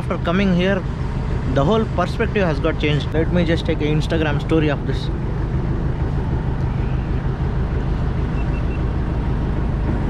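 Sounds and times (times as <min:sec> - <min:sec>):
motor boat engine droning: 0:00.0 - 0:10.0
water noise: 0:00.0 - 0:10.0.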